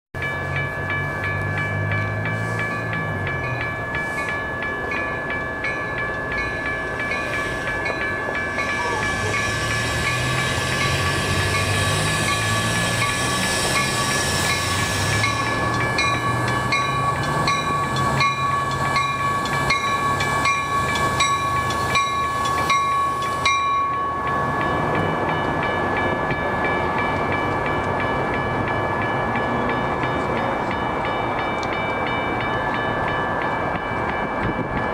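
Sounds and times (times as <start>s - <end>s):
crossing warning bell ringing: 0.2s - 34.9s
diesel locomotive drone: 0.2s - 34.9s.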